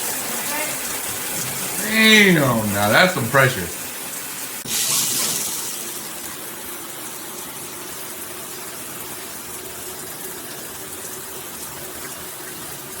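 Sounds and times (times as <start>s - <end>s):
shower spraying water: 0.0s - 13.0s.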